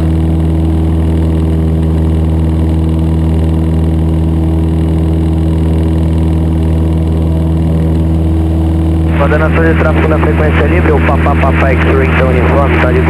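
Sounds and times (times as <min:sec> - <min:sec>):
light aircraft engine droning in cabin: 0:00.0 - 0:13.0.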